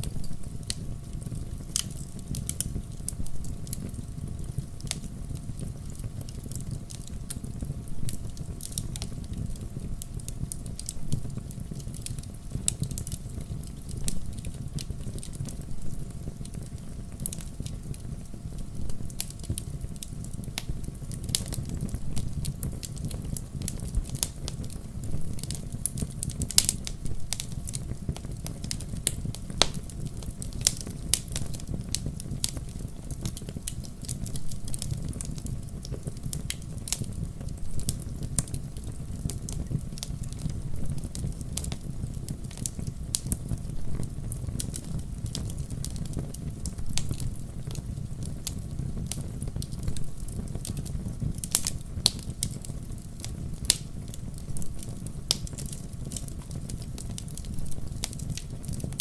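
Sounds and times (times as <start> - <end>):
campfire crackling: 0.0 - 59.0.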